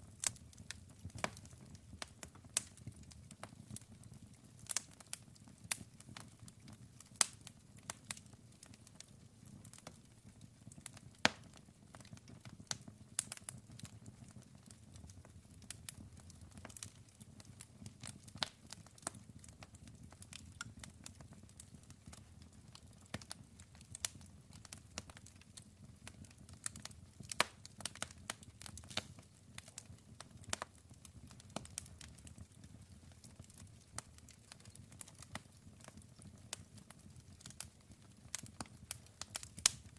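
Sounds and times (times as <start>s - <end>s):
low rumble of burning: 0.0s - 39.9s
campfire pops and snaps: 0.2s - 10.0s, 10.8s - 14.8s, 15.6s - 39.9s.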